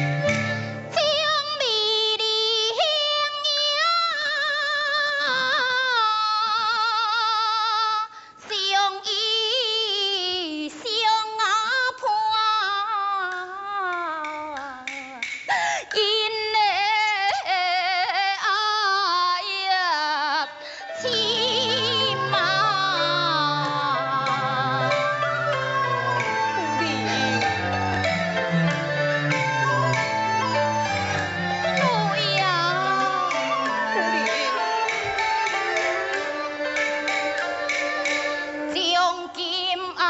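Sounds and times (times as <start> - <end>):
traditional instrumental accompaniment: 0.0 - 7.2, 8.4 - 40.0
woman singing opera aria: 0.9 - 40.0.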